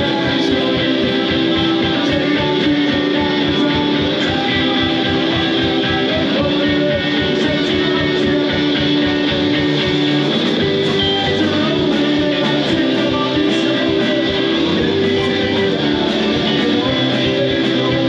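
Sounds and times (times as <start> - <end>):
guitars: 0.0 - 18.0
live rock band playing: 0.0 - 18.0.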